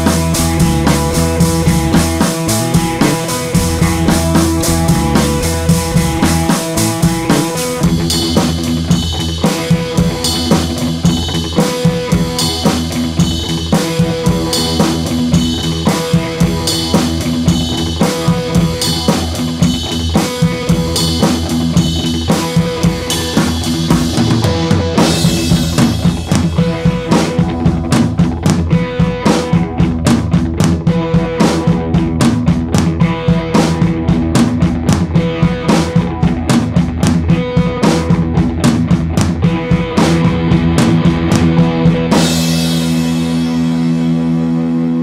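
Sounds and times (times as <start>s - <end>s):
drum kit playing a beat: 0.0s - 45.0s.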